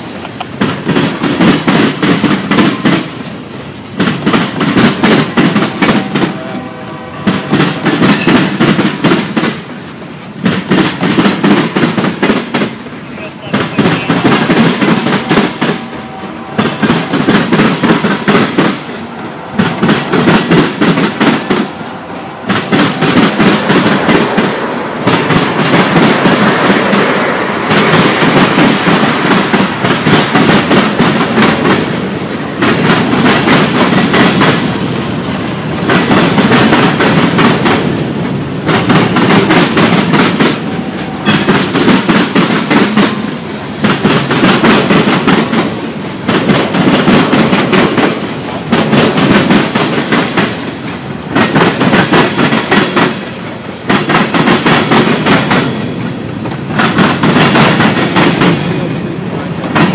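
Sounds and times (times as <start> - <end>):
train wheels clattering over track: 0.0 - 59.9.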